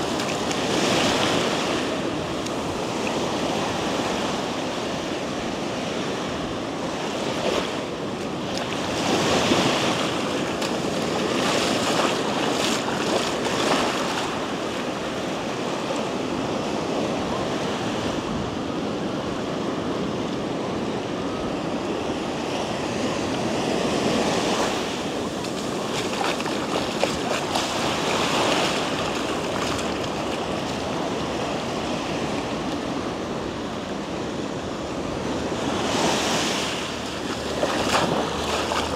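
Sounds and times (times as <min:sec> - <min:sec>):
ocean surf breaking on sand: 0:00.0 - 0:38.9.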